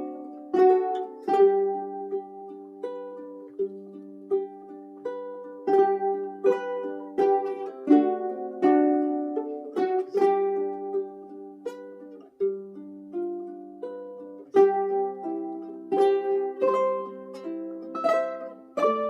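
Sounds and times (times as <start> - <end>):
ukulele chords plucked and strummed: 0.0 - 19.0.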